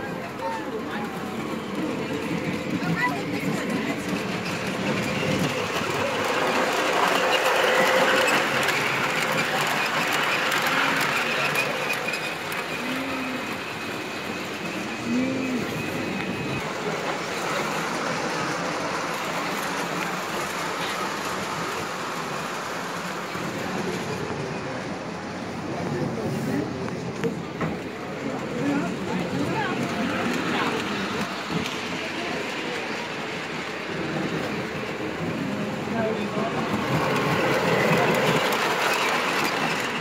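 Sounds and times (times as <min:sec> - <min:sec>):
model train rolling rumble: 0:00.0 - 0:40.0.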